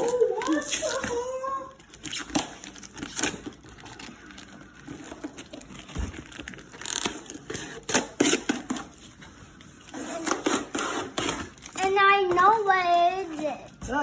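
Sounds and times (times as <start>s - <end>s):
packaging rustling and crinkling: 0.0s - 13.8s.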